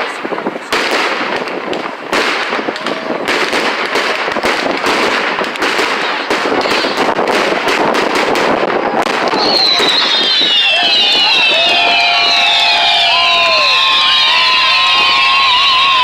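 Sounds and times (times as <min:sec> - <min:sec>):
fireworks bangs and crackling pops: 0:00.0 - 0:16.0.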